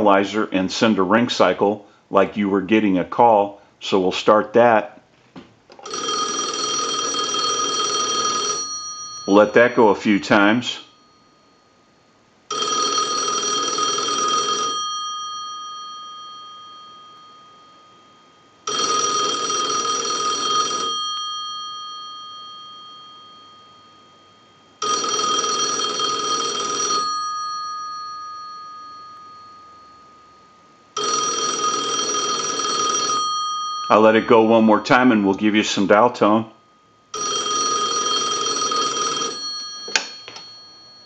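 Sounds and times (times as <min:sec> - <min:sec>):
payphone ringer bells ringing: 0:05.8 - 0:11.7, 0:12.5 - 0:36.4, 0:37.1 - 0:41.0.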